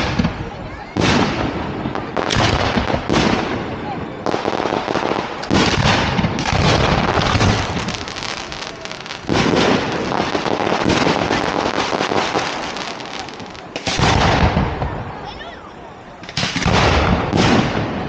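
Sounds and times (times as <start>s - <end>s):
fireworks bursting and crackling: 0.0s - 15.4s, 16.1s - 18.0s.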